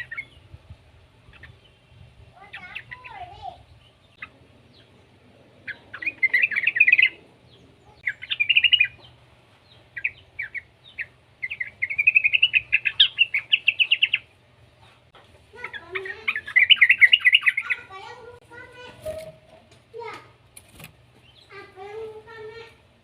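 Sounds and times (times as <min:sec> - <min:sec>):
bird chattering song: 0:00.0 - 0:14.4, 0:15.6 - 0:18.4, 0:21.2 - 0:22.7.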